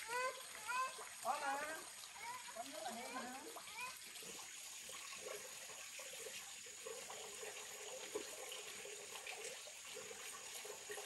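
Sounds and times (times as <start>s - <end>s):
water trickling into a pond: 0.0s - 11.0s.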